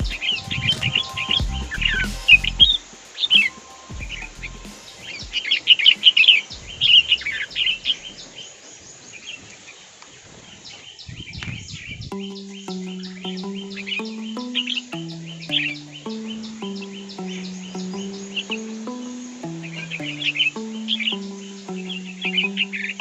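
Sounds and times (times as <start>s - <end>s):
bulbuls chirping: 0.0s - 23.0s.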